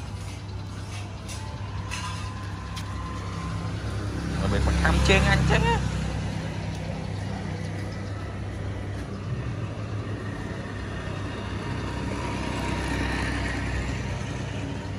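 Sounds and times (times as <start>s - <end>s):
low engine hum: 0.0s - 14.9s.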